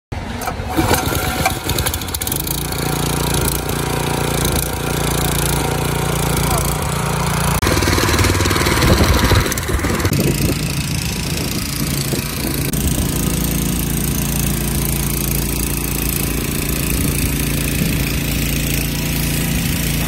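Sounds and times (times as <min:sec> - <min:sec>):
petrol engine running: 0:00.2 - 0:20.0.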